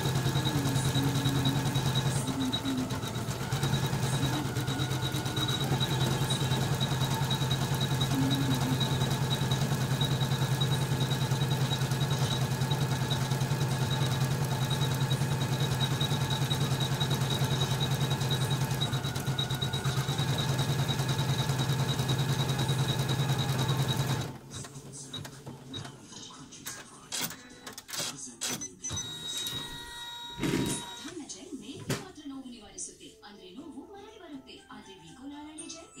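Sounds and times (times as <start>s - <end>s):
embroidery machine stitching: 0.0s - 31.1s.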